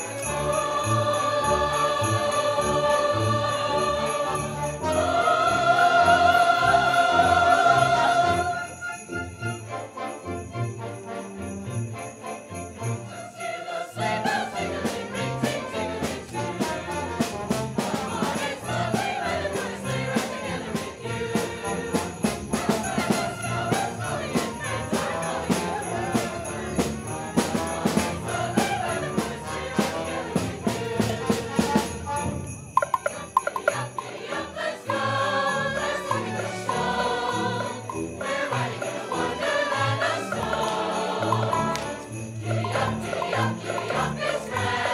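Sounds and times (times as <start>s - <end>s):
live holiday music: 0.0s - 44.9s
sleigh bells shaken: 0.0s - 44.9s.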